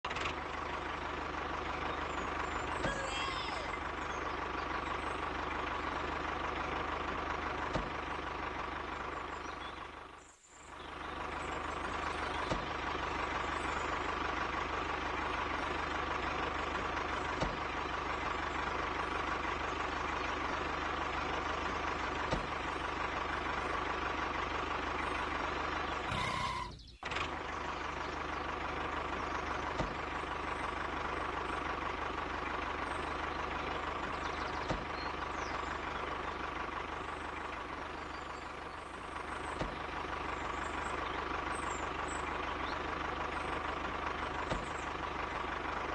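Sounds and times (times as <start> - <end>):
engine whine: 0.0 - 45.9
tractor engine running: 0.0 - 45.9.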